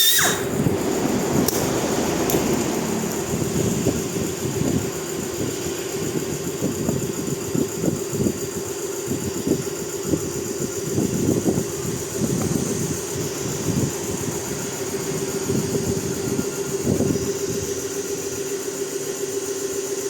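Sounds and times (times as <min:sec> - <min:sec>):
truck engine running: 0:00.2 - 0:20.0.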